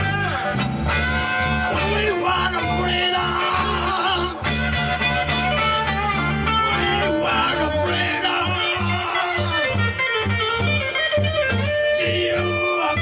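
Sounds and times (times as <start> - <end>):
bass: 0.0 - 13.0
guitars: 0.0 - 13.0.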